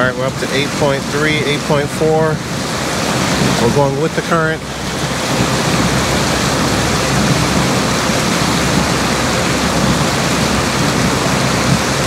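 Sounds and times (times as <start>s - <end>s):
water splashing along boat hull: 0.0s - 12.0s
wind buffeting microphone: 0.0s - 12.0s.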